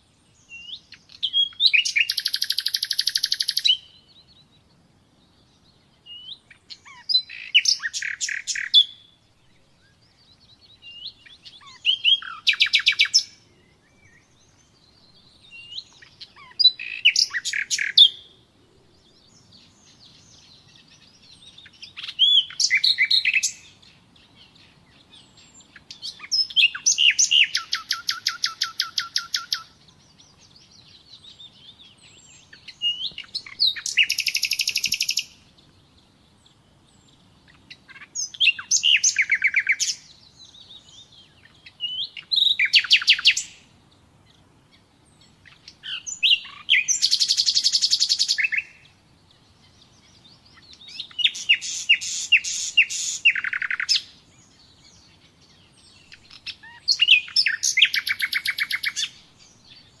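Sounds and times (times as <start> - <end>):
nightingale singing: 0.0 - 60.0.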